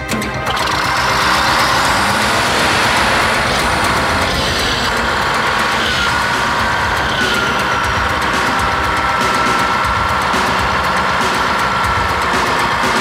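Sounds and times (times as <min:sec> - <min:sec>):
diesel engine running hard: 0:00.0 - 0:13.0
high machine whine: 0:00.0 - 0:13.0.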